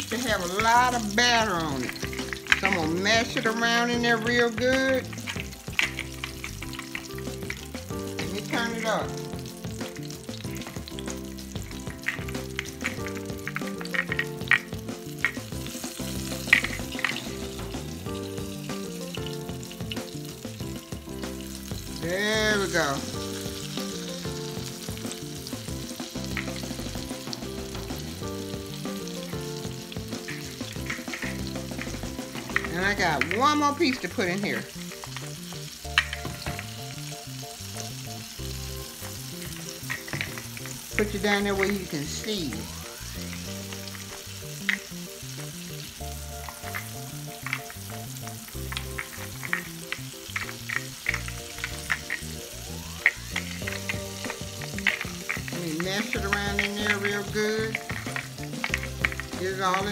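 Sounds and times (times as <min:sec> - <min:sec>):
fish sizzling in hot grease: 0:00.0 - 0:59.9
music with held notes: 0:00.0 - 0:59.9
oil popping and crackling: 0:00.0 - 0:59.9.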